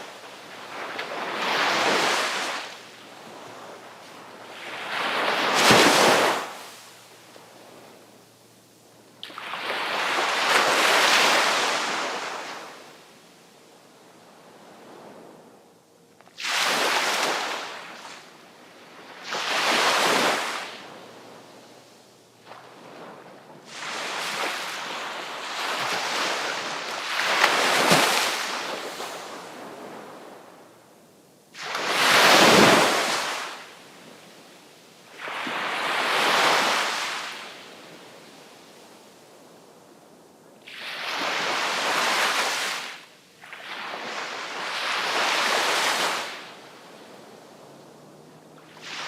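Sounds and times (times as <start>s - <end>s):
sea waves breaking on shore: 0.0s - 15.4s, 16.2s - 49.0s.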